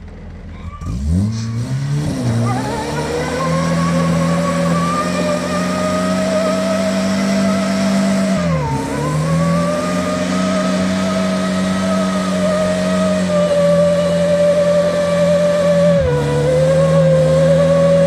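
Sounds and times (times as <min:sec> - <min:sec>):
wheels spinning: 0:00.0 - 0:18.0
car engine revving high: 0:00.8 - 0:18.0.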